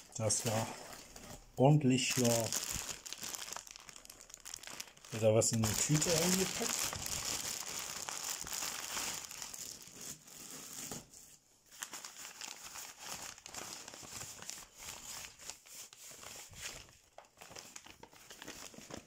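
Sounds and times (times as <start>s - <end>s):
bag crinkling and rustling: 0.0s - 10.8s, 11.7s - 15.6s, 16.2s - 19.0s.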